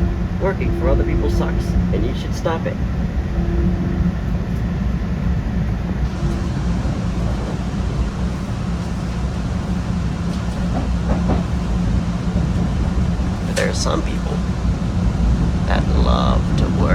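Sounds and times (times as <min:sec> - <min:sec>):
subway car rumbling: 0:00.0 - 0:16.9.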